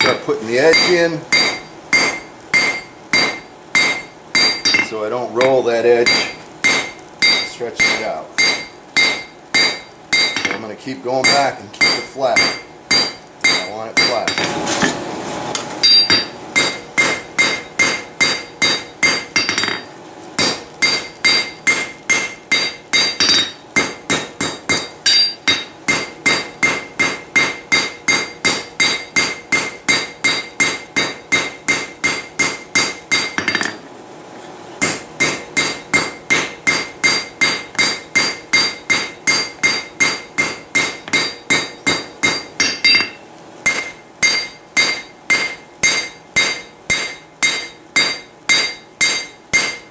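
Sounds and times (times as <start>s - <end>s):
hammer ringing on anvil: 0.0s - 10.6s, 11.2s - 14.5s, 15.8s - 33.8s, 34.8s - 49.9s.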